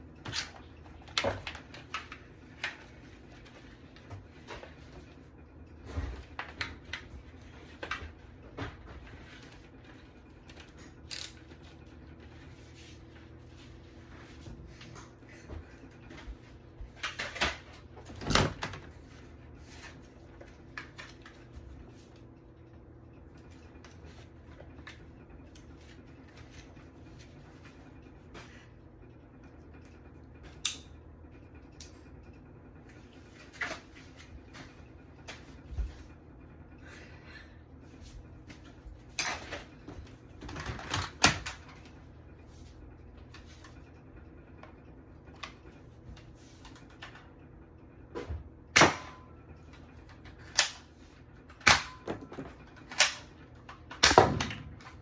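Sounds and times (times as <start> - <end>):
faint hum: 0.0 - 55.0.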